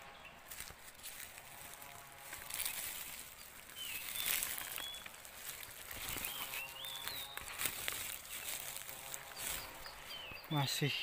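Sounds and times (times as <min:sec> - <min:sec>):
footsteps on dry leaves: 0:00.4 - 0:11.0.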